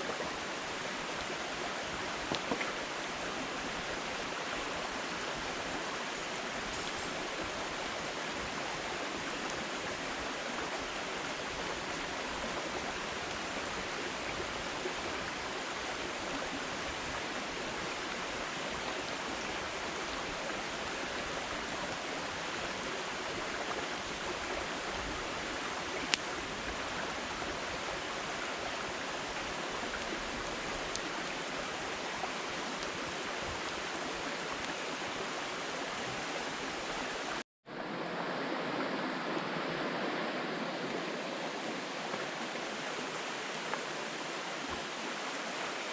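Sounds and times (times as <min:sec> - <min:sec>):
campfire hissing and crackling: 0:00.0 - 0:37.4.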